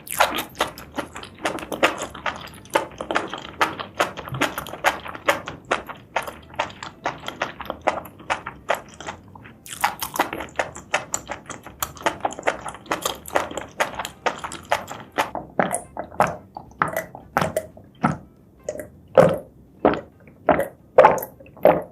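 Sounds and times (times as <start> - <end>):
wet squelching chewing: 0.0 - 21.9.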